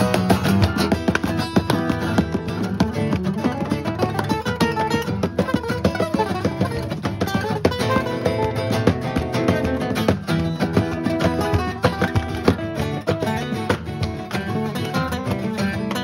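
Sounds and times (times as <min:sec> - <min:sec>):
acoustic guitars playing: 0:00.0 - 0:16.0.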